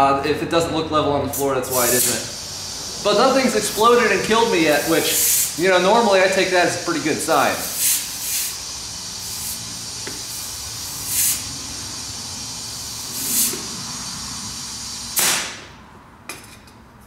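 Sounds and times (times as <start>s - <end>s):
compressed air hissing into tire: 1.3s - 15.8s.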